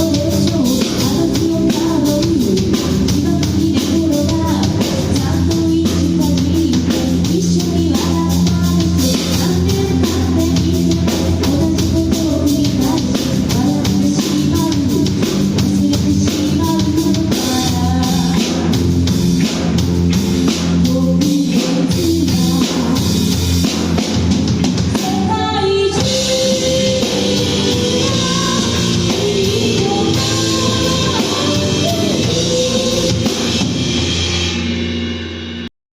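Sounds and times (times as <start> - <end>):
person singing: 0.0 - 18.8, 20.8 - 23.2, 24.9 - 33.7
rock band playing live: 0.0 - 35.7.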